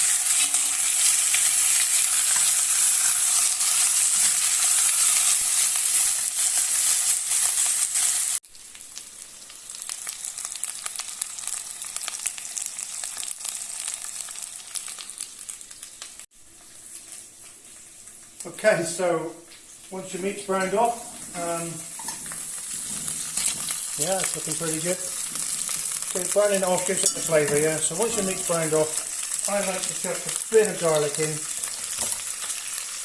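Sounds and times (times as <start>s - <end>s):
meat sizzling in oil: 0.0s - 18.5s, 19.4s - 33.0s.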